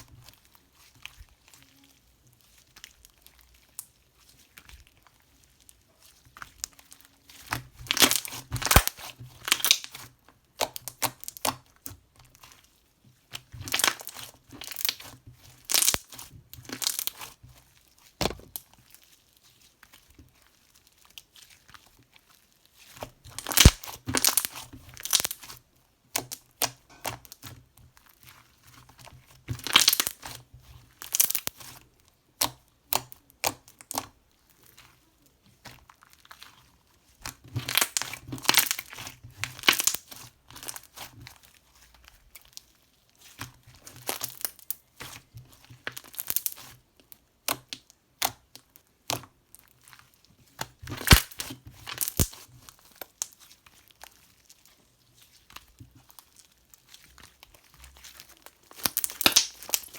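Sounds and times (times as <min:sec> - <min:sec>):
material crinkling and rustling: 0:00.0 - 0:59.9.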